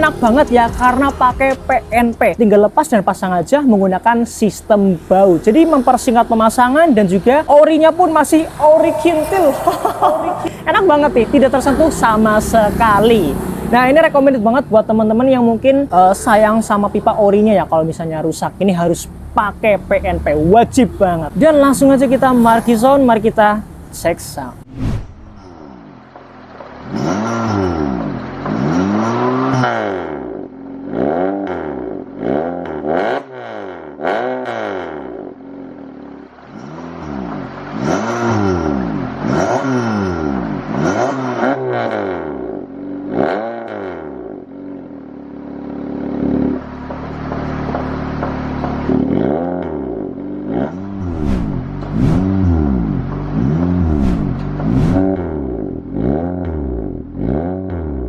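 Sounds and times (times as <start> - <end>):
car engine revving in blips: 0.0 - 58.0.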